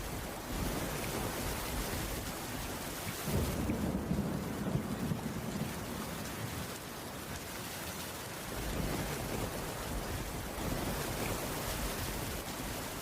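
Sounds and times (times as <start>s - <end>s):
low rumble of thunder: 0.0s - 7.4s, 8.4s - 13.0s
heavy rain: 0.0s - 13.0s.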